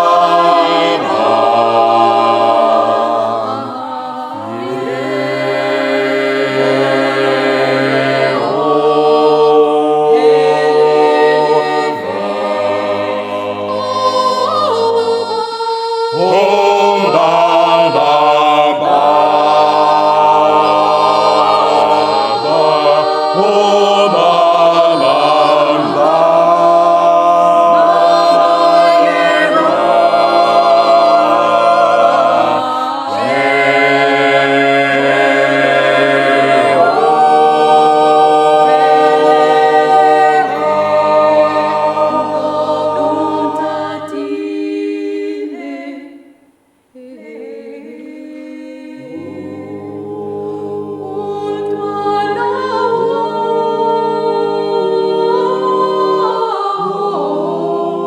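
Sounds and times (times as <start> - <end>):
vocal ensemble singing a cappella: 0.0 - 58.0.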